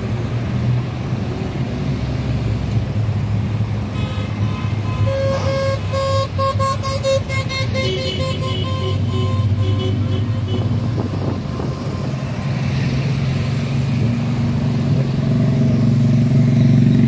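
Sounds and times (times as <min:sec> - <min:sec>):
cars and motorcycles passing: 0:00.0 - 0:17.0.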